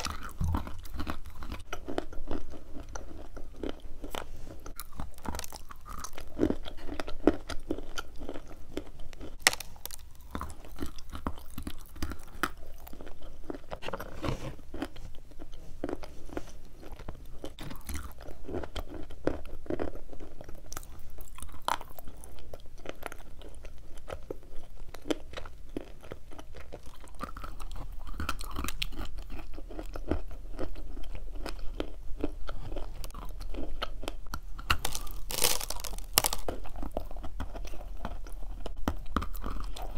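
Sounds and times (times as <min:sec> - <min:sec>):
crunching and chewing chalk: 0:00.0 - 0:39.9.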